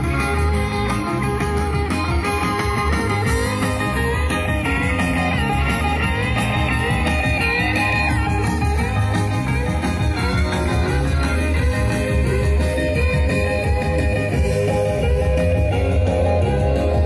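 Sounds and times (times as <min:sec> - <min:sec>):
guitar-led rock music: 0:00.0 - 0:17.0.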